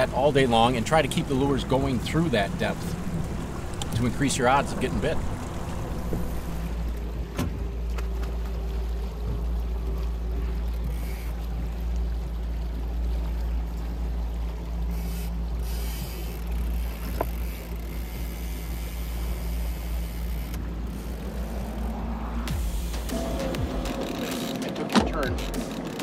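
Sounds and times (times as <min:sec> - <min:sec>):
outboard motor running: 0:00.0 - 0:26.0
water noise: 0:00.0 - 0:26.0
wind: 0:00.0 - 0:26.0.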